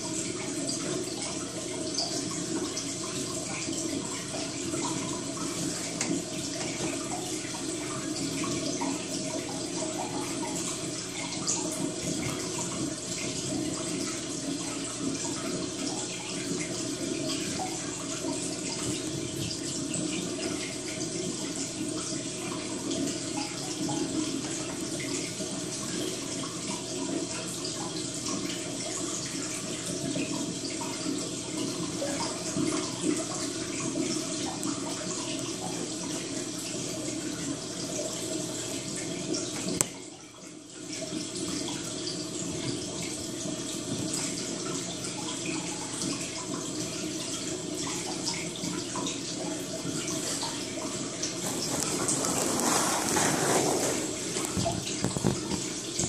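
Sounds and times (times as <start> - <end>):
trickle of running water: 0.0 - 56.0.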